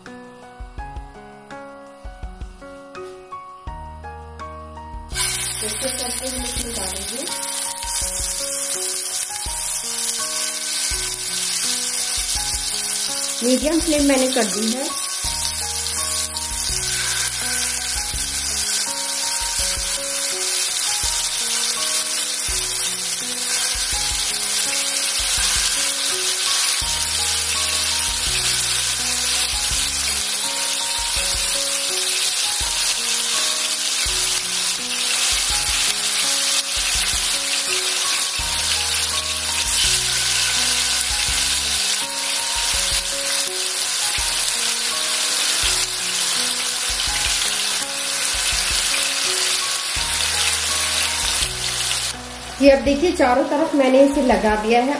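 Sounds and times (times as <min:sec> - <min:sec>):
soft background music: 0:00.0 - 0:54.9
chicken sizzling in hot oil: 0:05.1 - 0:54.5.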